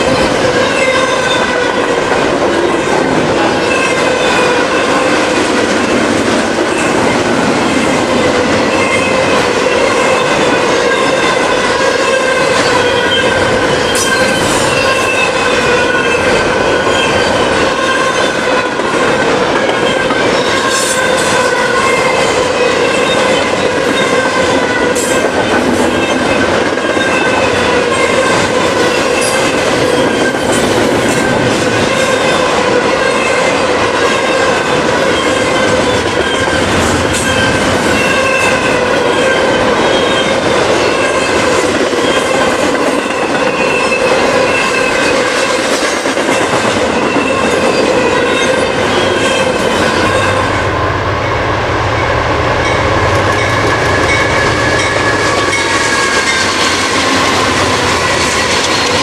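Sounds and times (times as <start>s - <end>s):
freight train wheels clacking: 0.0s - 50.6s, 52.6s - 59.0s
diesel locomotives rumbling: 0.0s - 59.0s.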